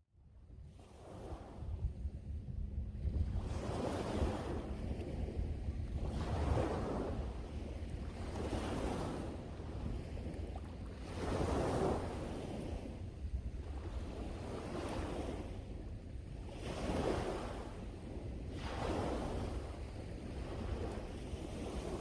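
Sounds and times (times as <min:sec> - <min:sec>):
wind rumble on microphone: 0:00.0 - 0:22.0
sea waves breaking on shore: 0:00.7 - 0:22.0.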